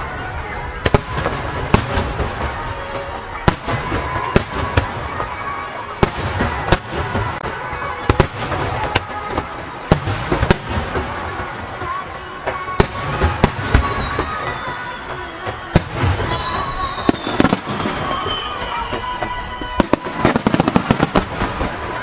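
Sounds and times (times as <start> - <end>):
people talking: 0.0 - 22.0
rumble of fireworks display: 0.0 - 22.0.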